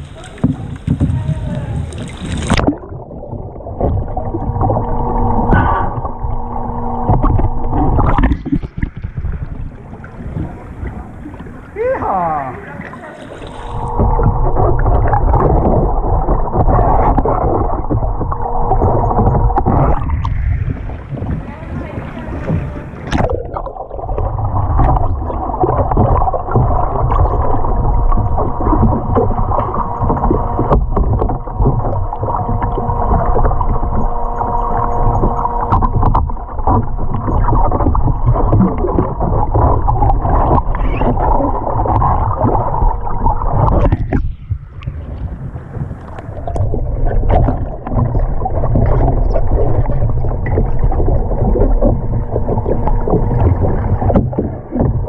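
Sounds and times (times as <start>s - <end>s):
low rumble: 0.0s - 55.0s
steady hum: 0.0s - 55.0s
water sloshing and splashing: 0.0s - 55.0s.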